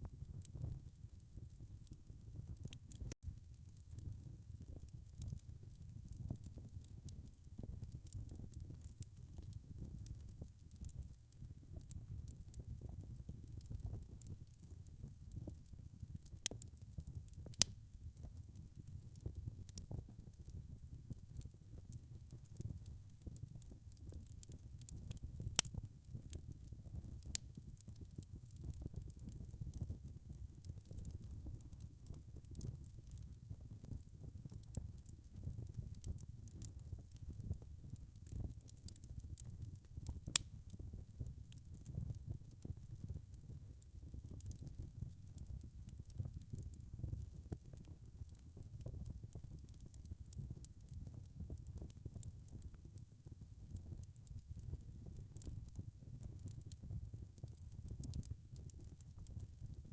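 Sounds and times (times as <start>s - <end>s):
wood fire crackling: 0.2s - 59.9s.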